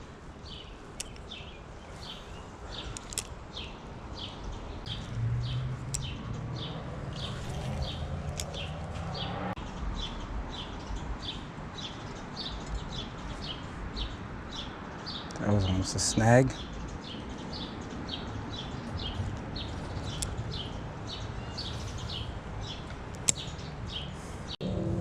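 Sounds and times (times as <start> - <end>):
bird chirping: 0.0 - 24.5.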